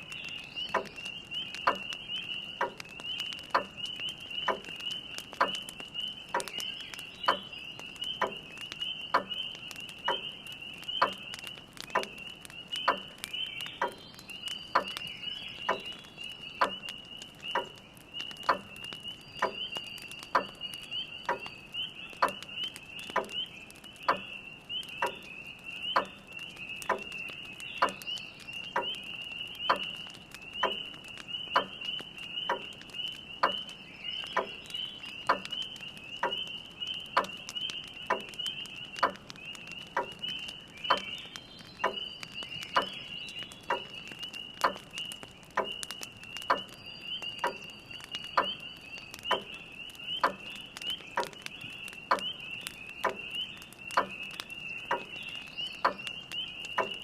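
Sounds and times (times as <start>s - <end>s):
frogs chorus: 0.0s - 57.0s
wood fire crackling: 0.0s - 57.0s.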